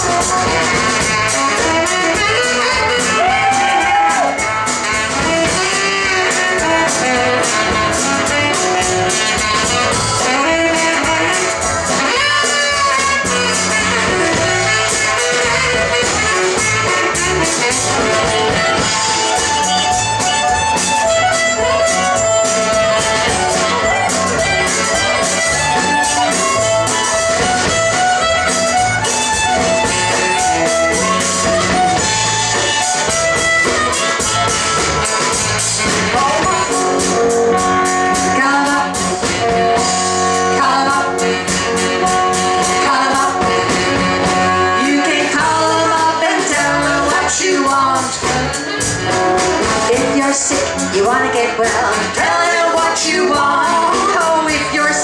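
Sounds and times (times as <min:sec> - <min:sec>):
electric slide guitar: 0:00.0 - 0:54.1
drums: 0:00.0 - 0:55.0
electric bass: 0:00.0 - 0:55.0.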